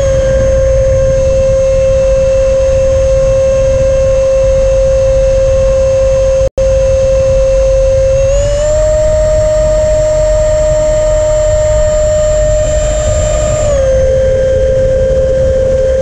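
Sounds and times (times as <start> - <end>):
electric ducted fan whine: 0.0 - 16.0
low airflow rumble: 0.0 - 16.0.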